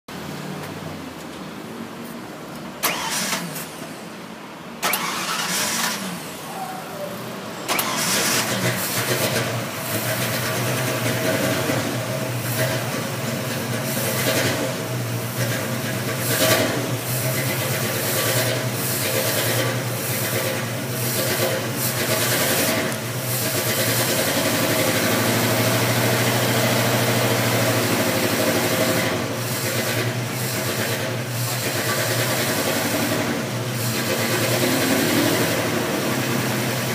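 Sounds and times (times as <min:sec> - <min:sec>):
car engine starting and running: 0:00.1 - 0:36.9.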